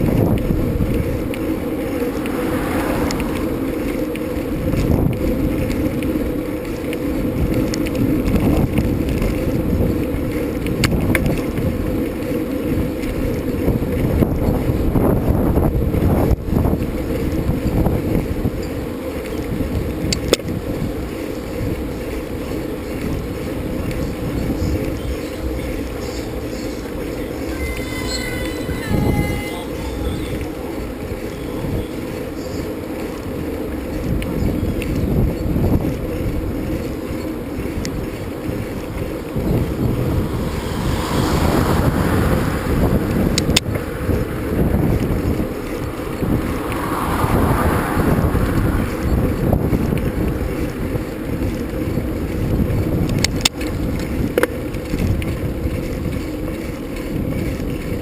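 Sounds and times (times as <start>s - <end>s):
bicycle clicks and rattles: 0.0s - 40.9s, 41.9s - 58.0s
wind rushing over microphone: 0.0s - 58.0s.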